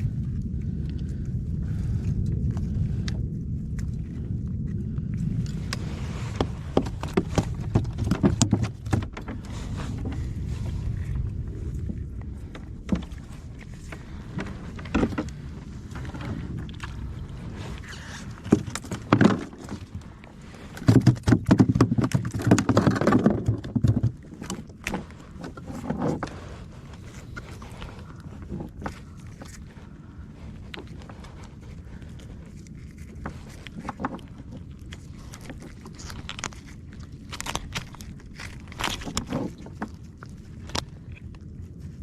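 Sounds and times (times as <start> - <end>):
low rumble of water and wind: 0.0 - 42.0.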